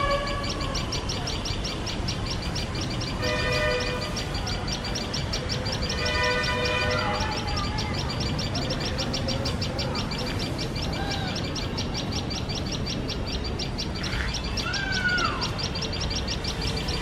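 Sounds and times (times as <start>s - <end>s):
sharp bird alarm notes: 0.0s - 17.0s.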